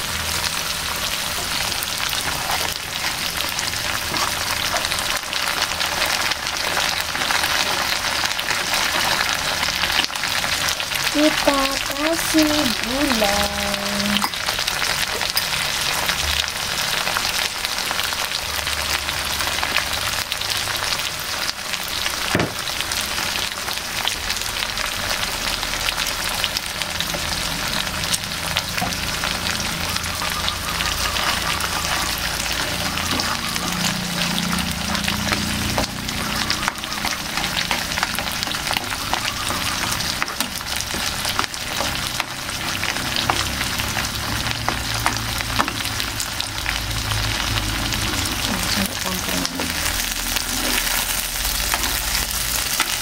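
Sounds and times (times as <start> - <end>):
sauce sizzling in a frying pan: 0.0 - 53.0.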